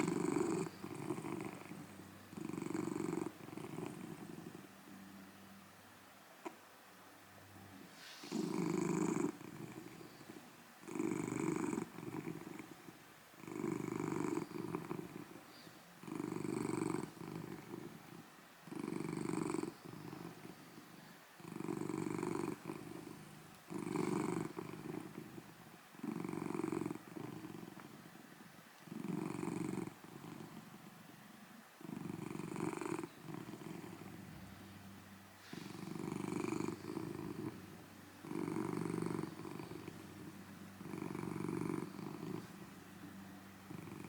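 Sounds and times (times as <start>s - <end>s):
cat purring loudly: 0.0s - 5.2s, 7.8s - 31.2s, 31.8s - 44.0s.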